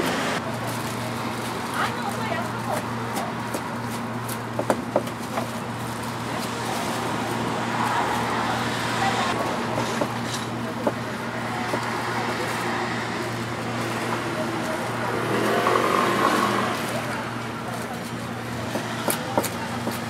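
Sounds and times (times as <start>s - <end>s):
steady traffic: 0.0s - 20.0s.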